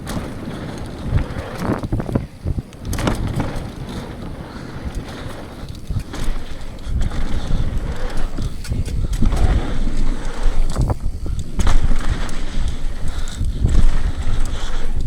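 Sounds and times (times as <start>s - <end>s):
bike tyres on dirt: 0.0s - 15.0s
wheels knocking on rocks: 0.0s - 15.0s
wind on microphone: 0.0s - 15.0s.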